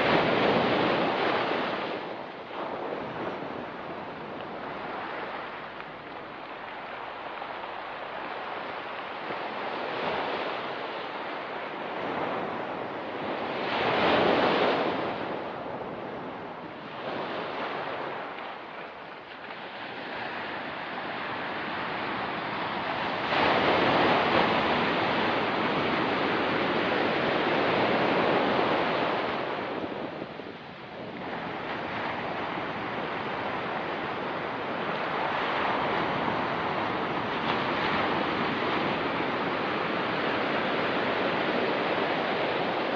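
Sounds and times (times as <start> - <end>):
ocean surf on rocky beach: 0.0 - 42.9.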